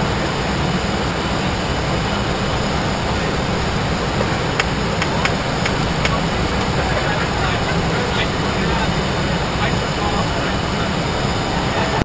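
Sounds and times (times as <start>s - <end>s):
jet cockpit rushing noise: 0.0s - 12.0s.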